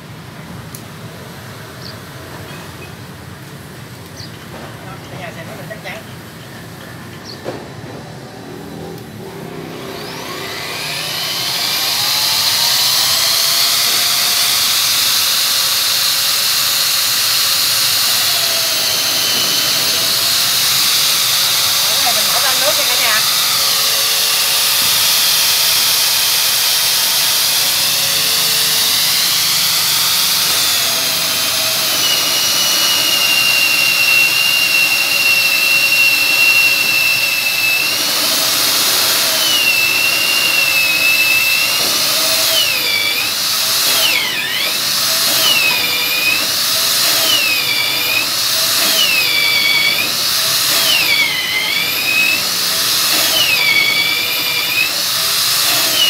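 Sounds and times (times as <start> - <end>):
magnetic drill motor whine: 9.3 - 56.0.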